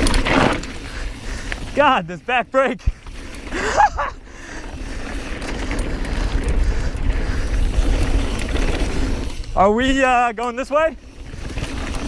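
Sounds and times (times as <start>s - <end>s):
bike tyre rumble on dirt: 0.0s - 12.0s.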